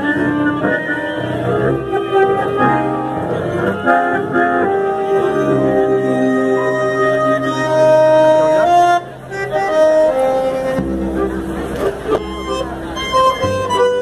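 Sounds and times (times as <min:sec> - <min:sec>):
bandoneon: 0:00.0 - 0:14.0
violins: 0:00.0 - 0:14.0.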